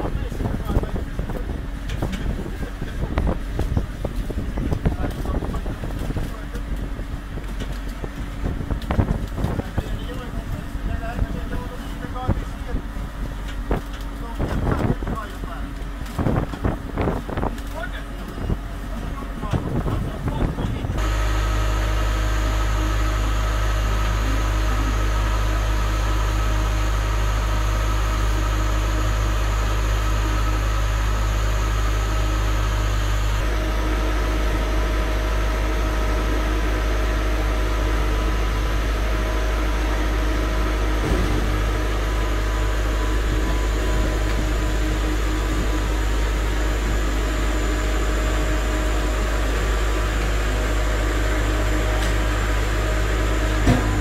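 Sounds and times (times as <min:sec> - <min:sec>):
harvester mechanical drone: 0:00.0 - 0:54.0.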